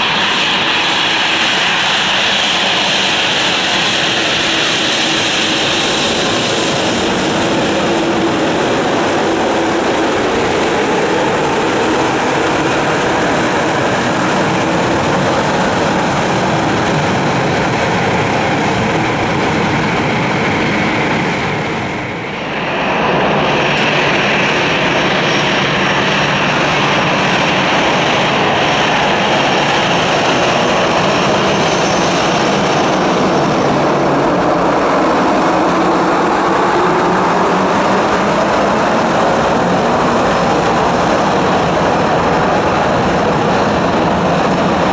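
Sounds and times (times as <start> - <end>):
jet engines whining at taxi: 0.0 - 44.9.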